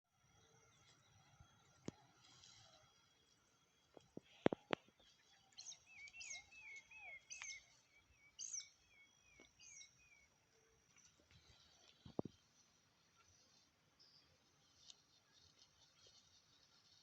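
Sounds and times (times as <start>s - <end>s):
faint birdsong: 0.1s - 17.0s.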